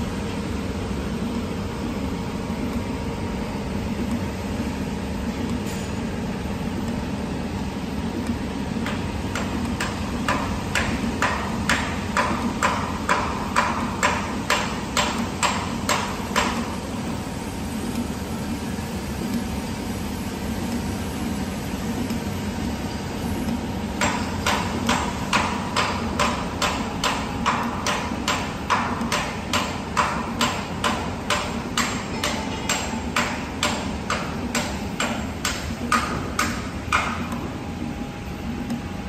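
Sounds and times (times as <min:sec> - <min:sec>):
machine mechanical hum: 0:00.0 - 0:39.0.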